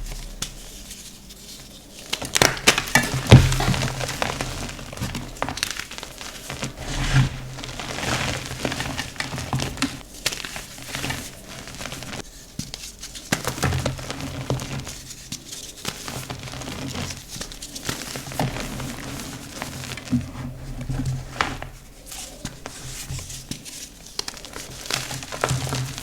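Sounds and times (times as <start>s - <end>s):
chalk crunching and crackling: 0.0s - 26.0s.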